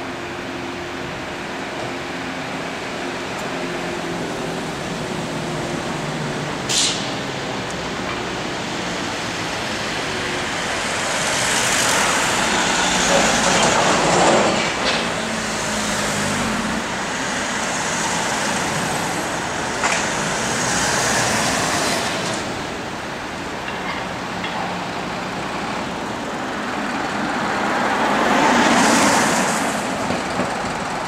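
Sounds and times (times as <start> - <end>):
moving vehicle rumble: 0.0 - 31.0.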